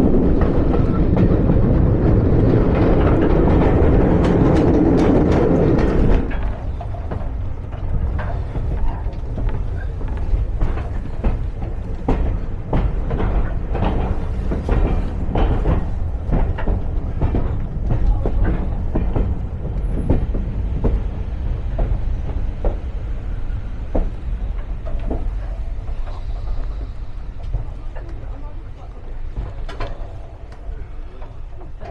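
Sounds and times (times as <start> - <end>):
knocks and clatter: 0.0 - 31.9
train wheels rumbling on rails: 0.0 - 31.9.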